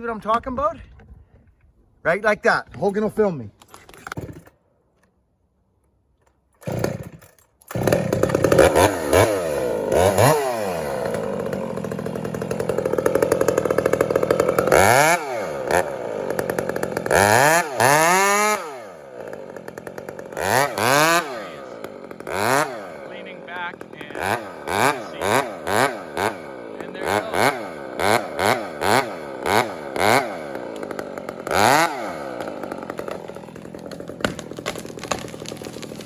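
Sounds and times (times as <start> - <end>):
chainsaw cutting tree: 6.6 - 36.0.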